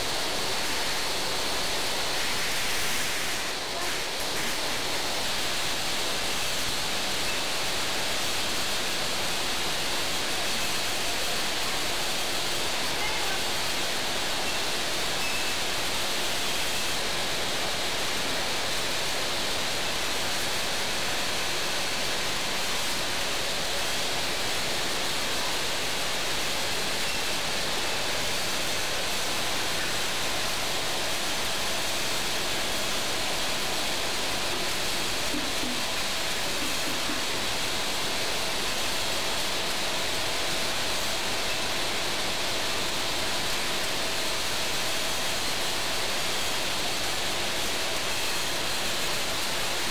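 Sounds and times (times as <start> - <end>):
powder filling machine hissing: 0.0 - 49.9.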